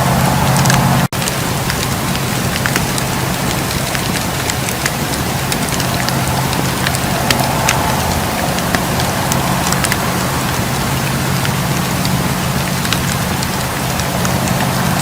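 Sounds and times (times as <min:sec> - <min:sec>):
wood fire crackling: 0:00.0 - 0:15.0
fire snapping and popping: 0:00.4 - 0:15.0.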